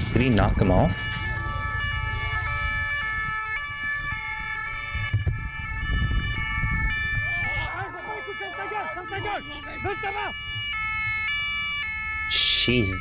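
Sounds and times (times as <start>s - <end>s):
two-tone siren wail: 0.0s - 13.0s
wind: 0.0s - 13.0s.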